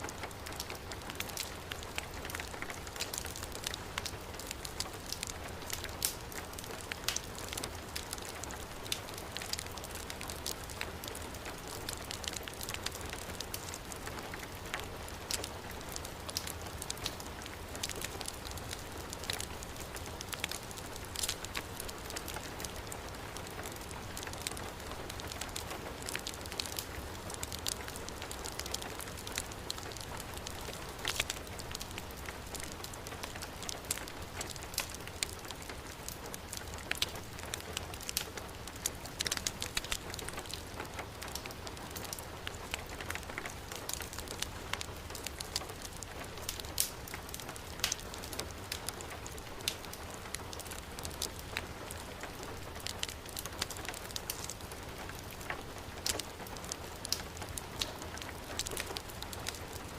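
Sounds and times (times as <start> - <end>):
heavy rain: 0.0 - 59.9
wood fire crackling: 0.0 - 59.9.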